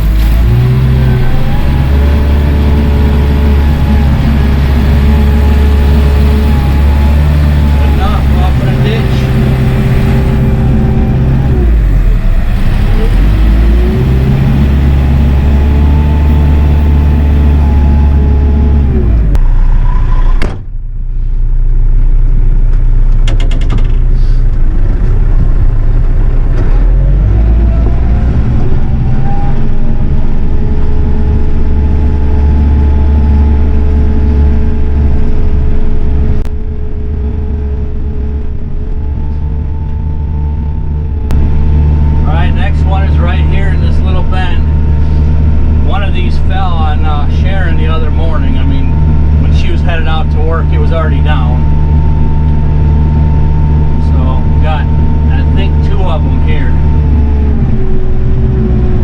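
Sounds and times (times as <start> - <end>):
tractor diesel engine revving: 0.0 - 21.1, 21.7 - 59.0.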